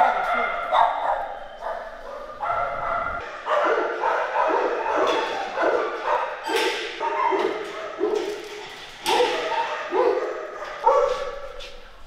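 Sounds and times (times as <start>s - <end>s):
dogs barking: 0.0s - 11.8s.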